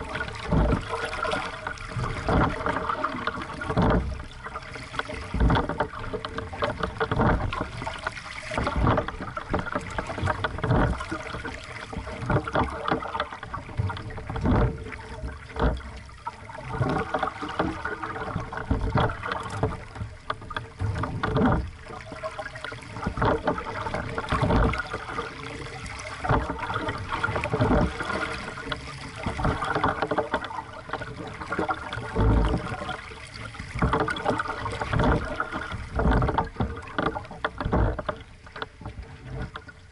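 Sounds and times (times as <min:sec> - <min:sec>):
water splashing against hull: 0:00.0 - 0:39.9
waves thumping hull: 0:00.0 - 0:39.9.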